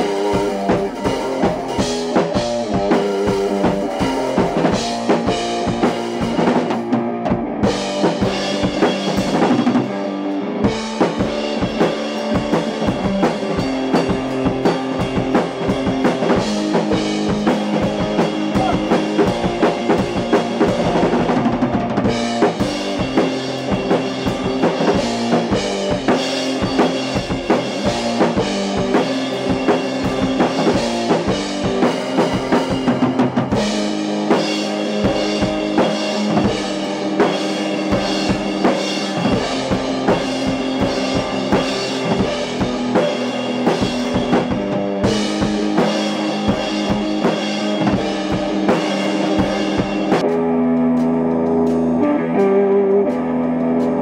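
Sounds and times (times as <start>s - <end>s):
drum kit beat: 0.0s - 54.0s
electric guitar chords: 0.0s - 54.0s.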